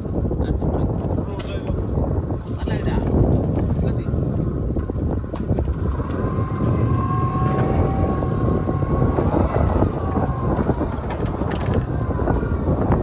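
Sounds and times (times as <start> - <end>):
boat engine rumbling: 0.0 - 13.0
wind buffeting microphone: 0.0 - 13.0.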